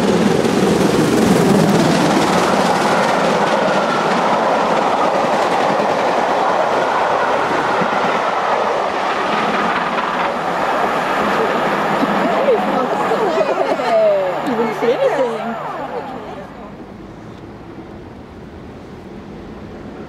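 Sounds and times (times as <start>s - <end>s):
train coaches rushing past: 0.0s - 20.0s.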